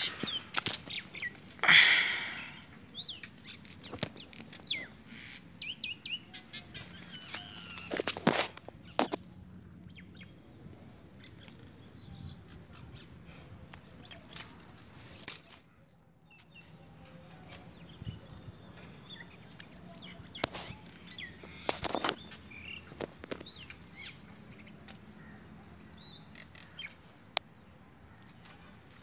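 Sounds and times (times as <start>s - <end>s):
dry leaves and twigs crackling: 0.0s - 2.4s, 3.0s - 12.1s, 13.6s - 18.1s, 19.2s - 25.6s, 28.1s - 29.0s
small birds chirping: 0.0s - 29.0s.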